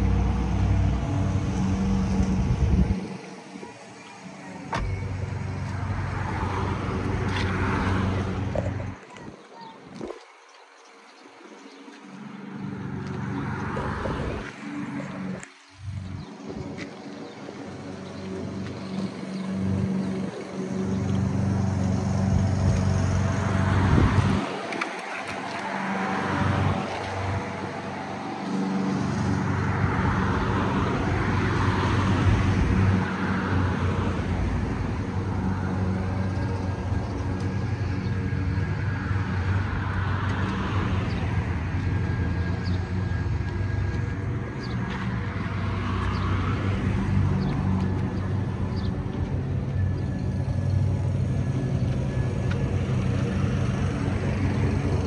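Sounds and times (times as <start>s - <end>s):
low engine hum: 0.0s - 10.2s, 11.3s - 55.0s.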